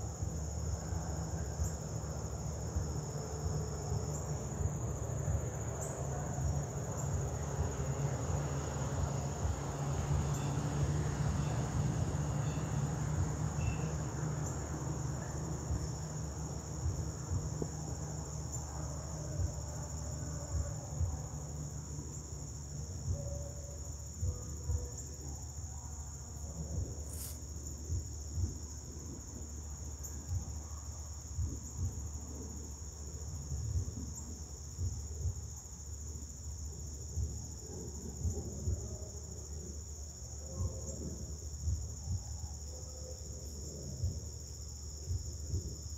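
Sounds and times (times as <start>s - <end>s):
insects trilling: 0.0s - 45.9s
low rumble with crackling: 0.0s - 45.9s.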